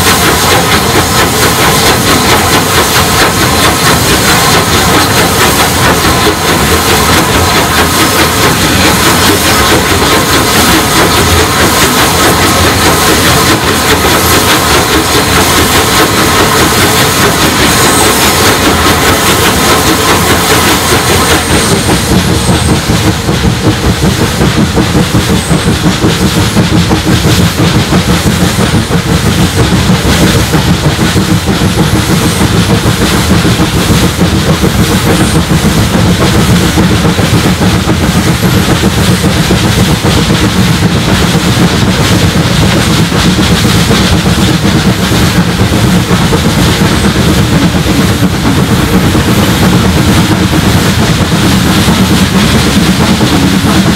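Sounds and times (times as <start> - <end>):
steam hiss: 0.0 - 53.9
steam locomotive exhaust beat: 0.0 - 53.9.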